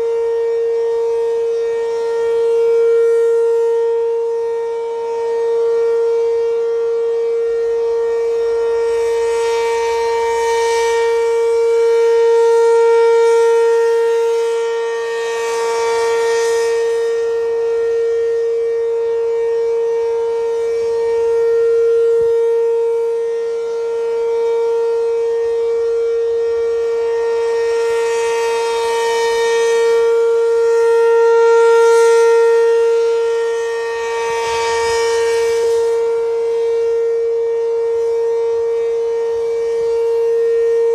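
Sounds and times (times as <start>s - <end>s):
civil defense siren: 0.0s - 40.9s.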